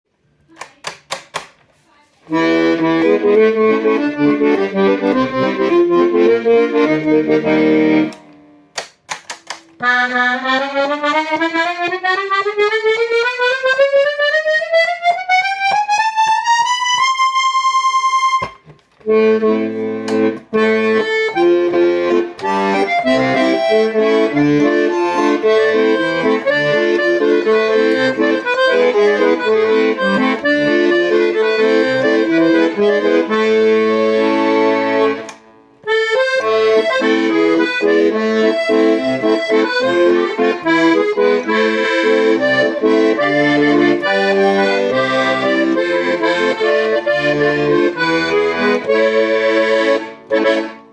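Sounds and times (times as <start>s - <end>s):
accordion playing: 2.3s - 50.9s.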